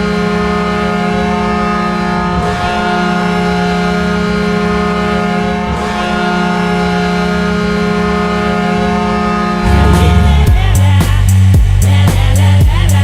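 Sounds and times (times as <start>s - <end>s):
deep goal horn blast: 0.0s - 11.4s.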